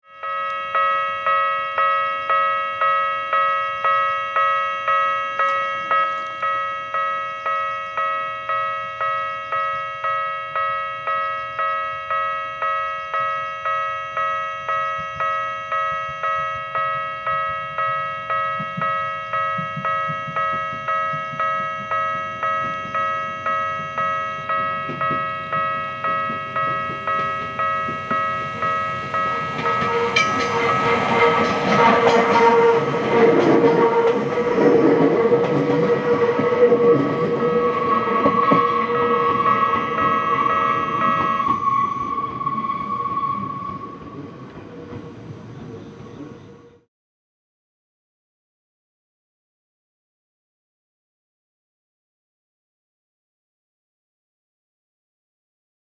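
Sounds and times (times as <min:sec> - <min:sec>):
level-crossing warning bell ringing: 0:00.0 - 0:45.0
low rumble of train: 0:00.1 - 0:46.9.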